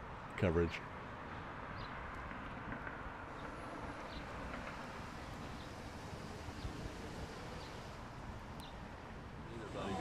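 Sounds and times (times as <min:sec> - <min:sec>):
distant traffic hum: 0:00.0 - 0:10.0.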